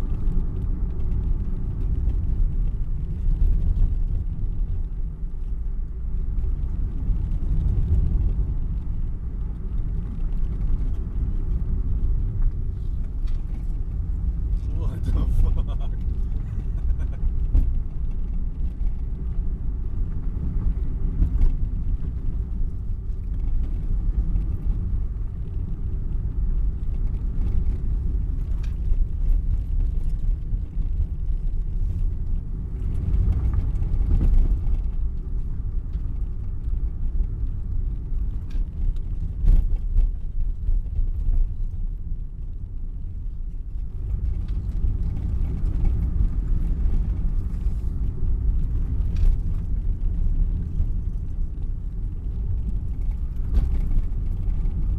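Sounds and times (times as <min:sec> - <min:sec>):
car engine and road rumble: 0:00.0 - 0:54.9.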